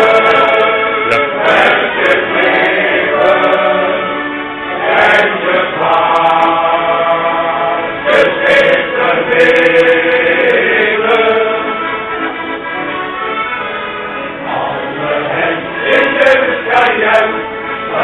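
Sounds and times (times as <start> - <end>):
men's choir singing: 0.0 - 12.4, 14.3 - 18.0.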